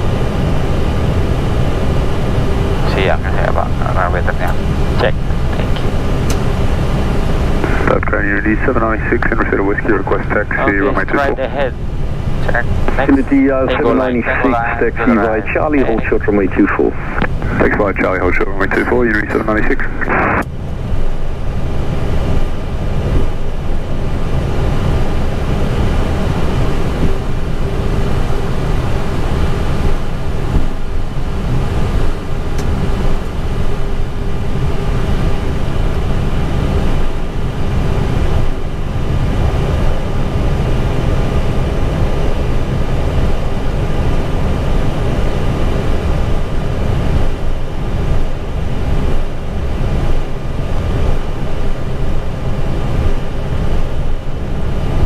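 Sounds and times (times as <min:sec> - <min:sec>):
engines and cockpit fans humming: 0:00.0 - 0:55.0
wheels rumbling on taxiway: 0:00.0 - 0:55.0.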